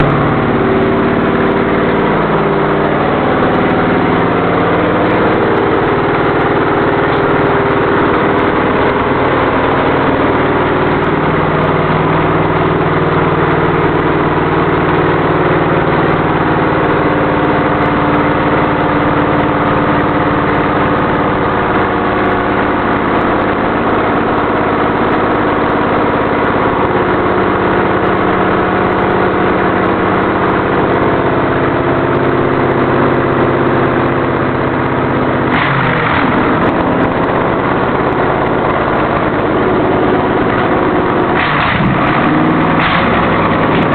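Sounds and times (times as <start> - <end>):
loud car engine idling: 0.0 - 43.9.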